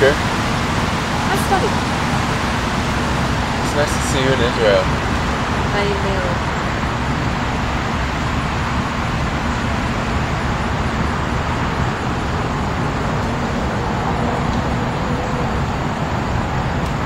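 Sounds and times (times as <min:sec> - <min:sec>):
constant low rumble with hiss: 0:00.0 - 0:17.0.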